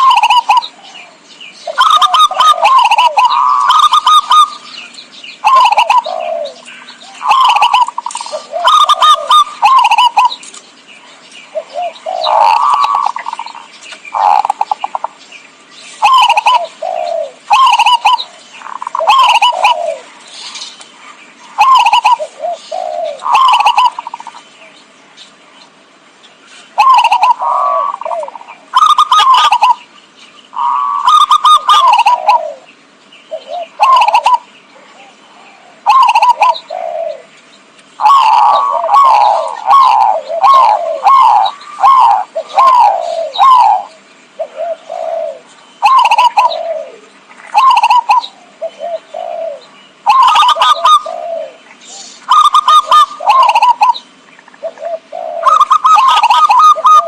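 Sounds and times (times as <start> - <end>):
dove cooing: 0.0 - 10.6, 11.5 - 15.2, 16.0 - 24.7, 26.7 - 29.9, 30.5 - 37.4, 38.0 - 57.0.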